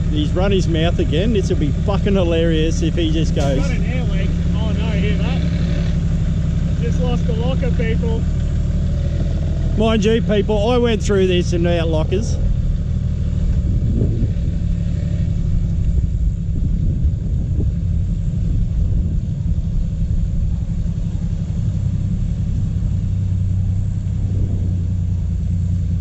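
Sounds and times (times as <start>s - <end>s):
engine low rumble: 0.0s - 26.0s.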